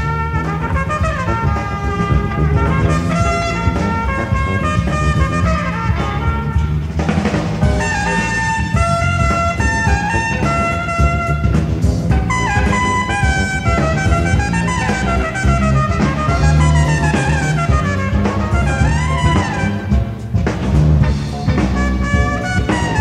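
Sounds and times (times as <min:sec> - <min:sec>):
drum kit: 0:00.0 - 0:23.0
electric bass: 0:00.0 - 0:23.0
saxophone: 0:00.0 - 0:23.0
trumpet: 0:00.0 - 0:23.0.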